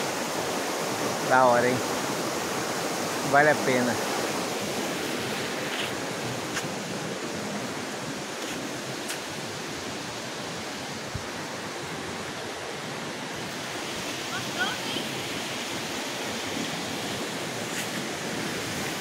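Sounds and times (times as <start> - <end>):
river flowing over rocks: 0.0 - 19.0.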